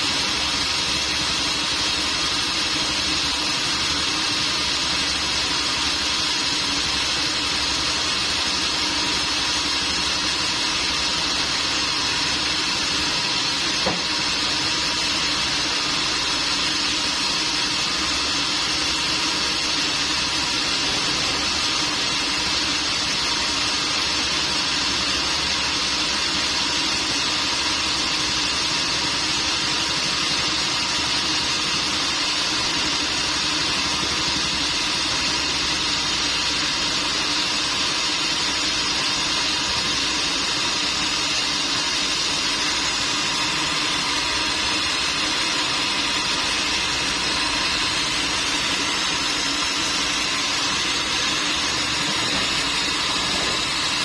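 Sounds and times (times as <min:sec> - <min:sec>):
sawmill motor drone: 0:00.0 - 0:54.0.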